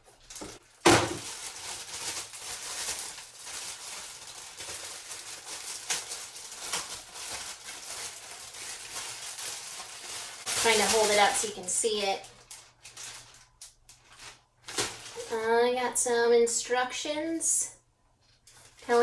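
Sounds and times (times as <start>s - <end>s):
packaging rustling and crackling: 0.0s - 15.4s.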